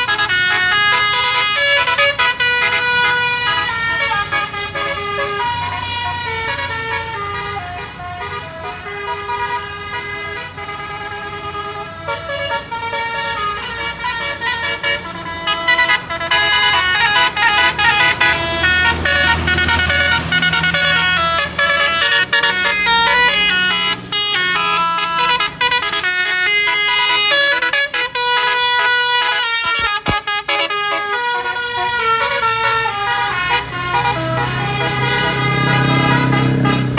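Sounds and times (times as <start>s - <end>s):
bus engine running: 0.0s - 36.9s
multi-tone bus horn melody: 0.0s - 36.9s.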